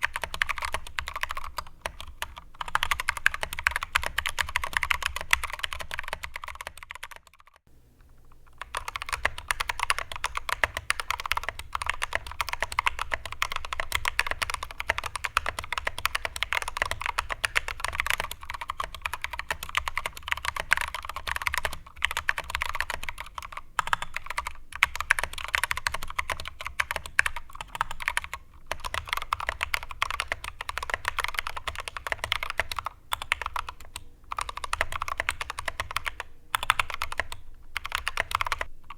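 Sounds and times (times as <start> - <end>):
mechanical keyboard typing: 0.0 - 7.7, 8.5 - 38.9.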